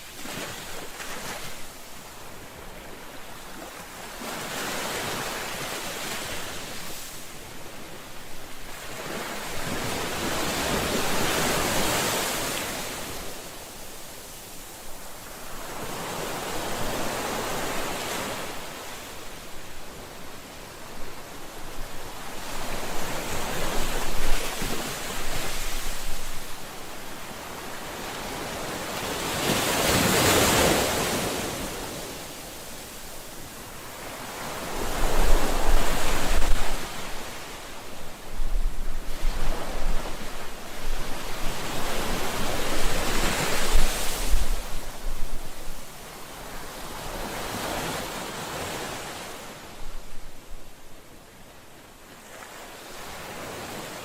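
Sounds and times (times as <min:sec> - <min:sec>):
sea waves breaking on shore: 0:00.0 - 0:50.5.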